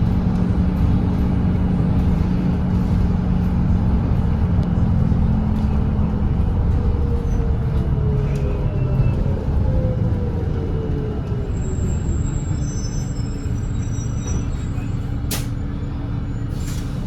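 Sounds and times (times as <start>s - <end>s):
bus diesel engine droning: 0.0s - 17.0s
road noise: 0.0s - 17.0s.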